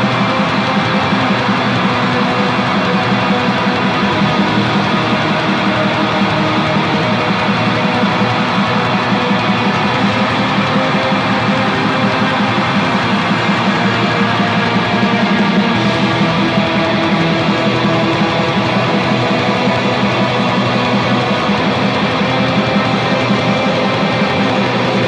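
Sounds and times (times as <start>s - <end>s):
distorted electric guitars droning: 0.0s - 25.0s.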